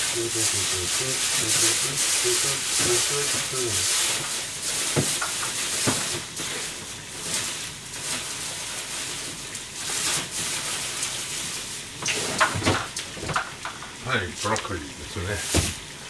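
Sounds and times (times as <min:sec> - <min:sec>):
pots bubbling on a stove: 0:00.0 - 0:16.0.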